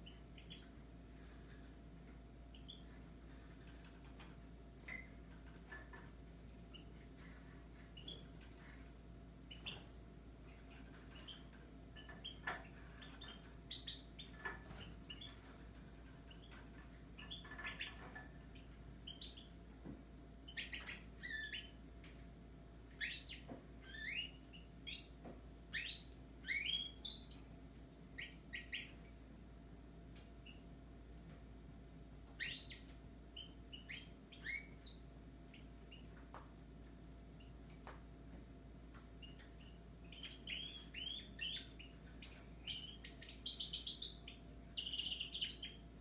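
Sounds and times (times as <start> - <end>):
birds chirping and twittering: 0.0 - 29.3, 30.1 - 31.4, 32.2 - 38.0, 38.8 - 46.0.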